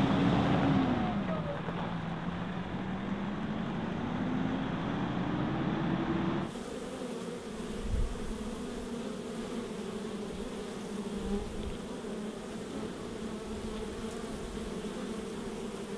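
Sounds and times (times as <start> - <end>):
bees buzzing: 0.0 - 15.9.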